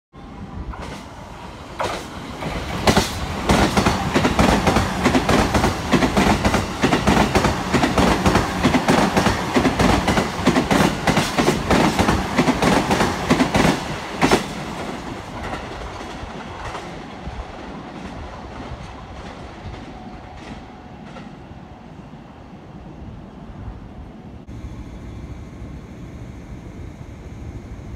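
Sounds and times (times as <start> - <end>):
electric train passing at speed: 0.2 - 27.9.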